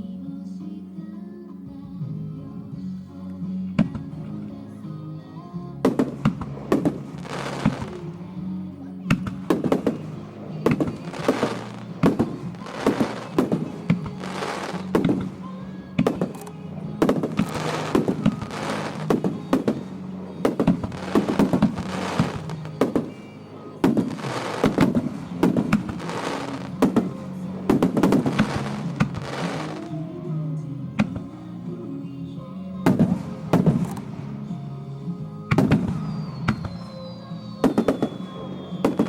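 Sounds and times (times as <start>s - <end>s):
firework bangs and crackling: 2.8s - 4.8s, 5.6s - 39.0s.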